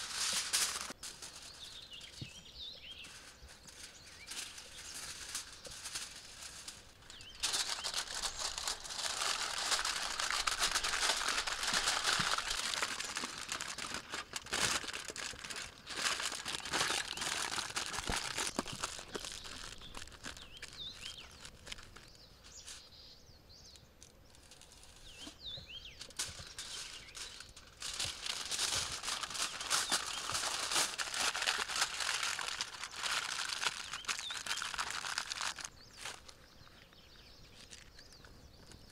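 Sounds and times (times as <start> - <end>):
dry rustling and crinkling: 0.0 - 22.9, 23.8 - 38.9
small bird chirping: 1.0 - 13.8, 16.5 - 38.9.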